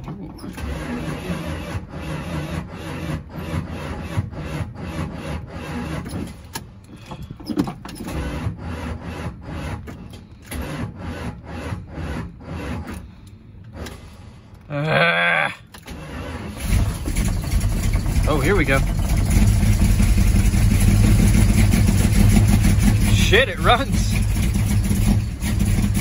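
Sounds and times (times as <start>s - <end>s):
engine cranking without firing: 0.0s - 14.7s, 15.6s - 26.0s.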